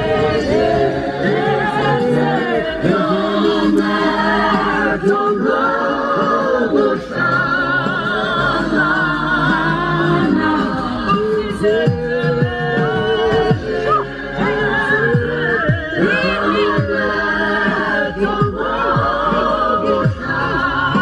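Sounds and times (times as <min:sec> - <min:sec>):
choir singing in harmony: 0:00.0 - 0:21.0.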